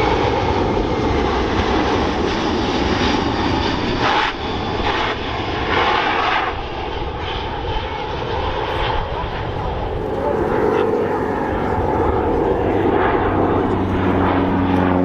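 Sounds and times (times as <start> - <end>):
jet plane flying by: 0.0 - 15.0.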